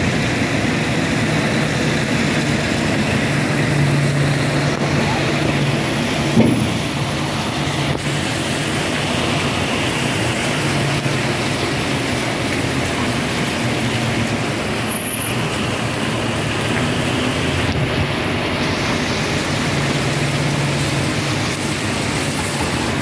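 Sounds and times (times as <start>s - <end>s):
vehicle drone and rumble: 0.0s - 23.0s.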